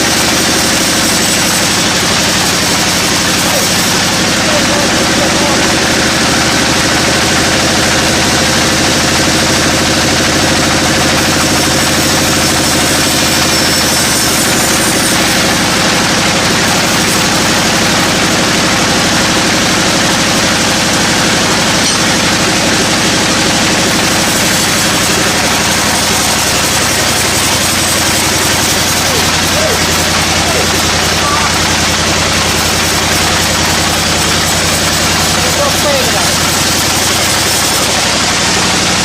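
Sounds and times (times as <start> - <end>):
sawmill machinery running: 0.0 - 39.0.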